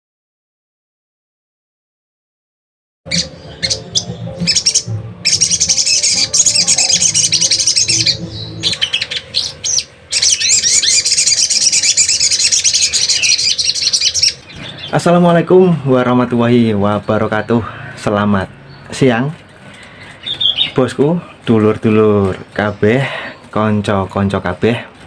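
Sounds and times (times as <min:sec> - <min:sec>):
sunbird twittering song: 0:03.1 - 0:24.5.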